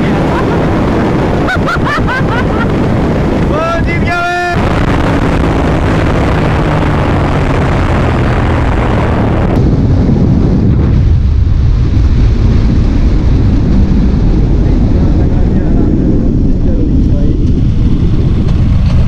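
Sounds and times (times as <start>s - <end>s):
motorcycle engine drone: 0.0s - 19.0s
wind rushing on microphone: 0.0s - 19.0s.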